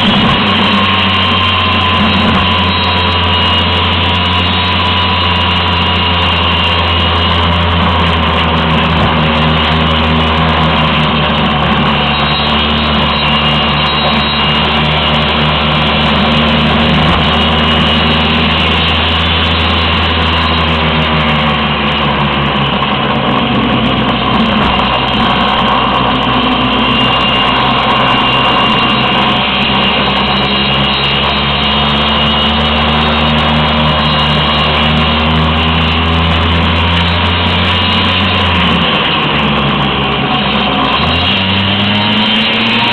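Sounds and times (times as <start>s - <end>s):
scooter engine running under load: 0.0s - 42.9s.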